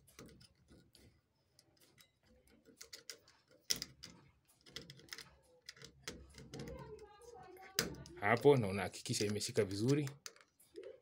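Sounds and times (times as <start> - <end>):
wires clicking into connector: 1.7 - 10.7.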